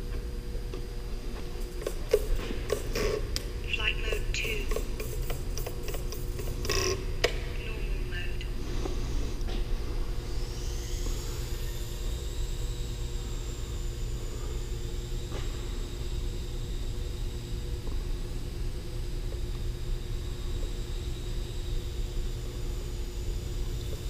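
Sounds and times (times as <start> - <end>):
low rumble with hum: 0.0 - 24.0
drone motors whining: 0.5 - 24.0.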